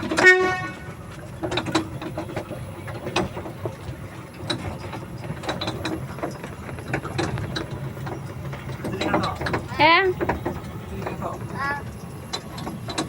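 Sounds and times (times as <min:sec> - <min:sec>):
train carriage rattling and clanking: 0:00.0 - 0:13.0.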